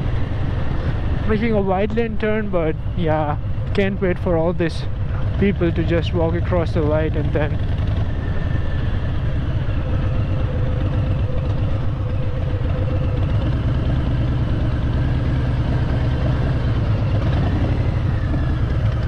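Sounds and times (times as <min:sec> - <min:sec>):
motorcycle engine idling: 0:03.4 - 0:19.0.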